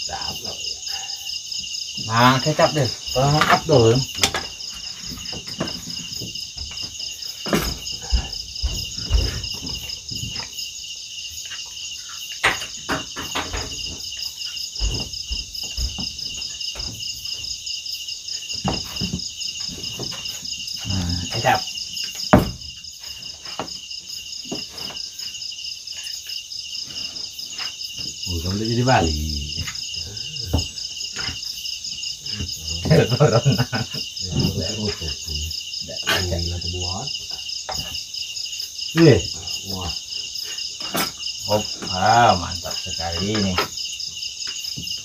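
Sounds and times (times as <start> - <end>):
night insects trilling: 0.0 - 45.0.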